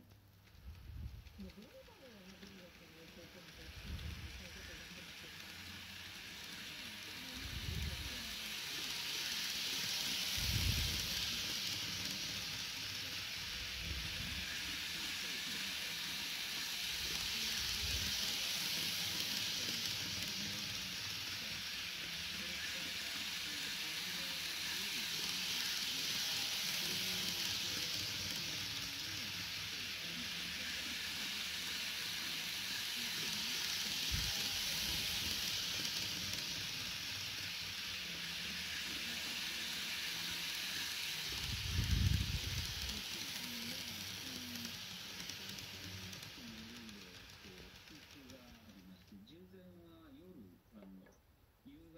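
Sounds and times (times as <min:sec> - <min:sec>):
model train whirring on rails: 0:00.0 - 0:51.1.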